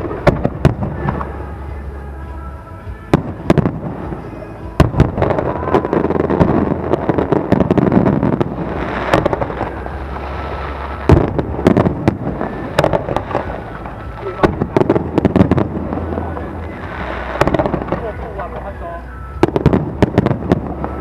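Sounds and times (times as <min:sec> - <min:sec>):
fireworks bursting with bangs: 0:00.0 - 0:21.0
fireworks crackle: 0:00.0 - 0:21.0.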